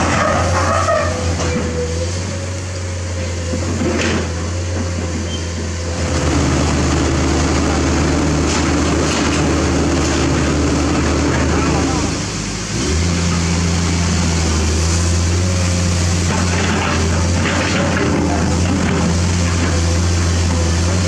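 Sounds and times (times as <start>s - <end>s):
concrete mixer truck engine running: 0.0s - 21.0s.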